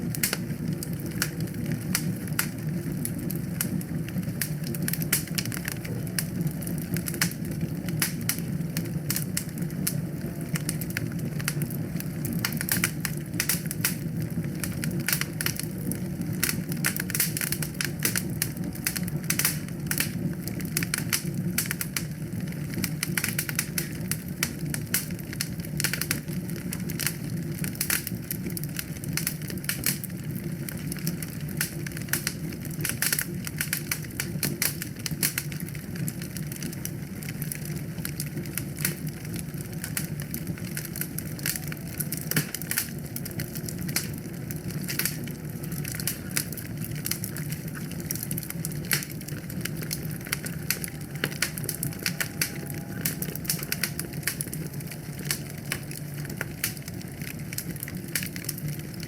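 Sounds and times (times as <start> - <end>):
fire snaps and pops: 0.0 - 59.0
low noise of flames: 0.0 - 59.0.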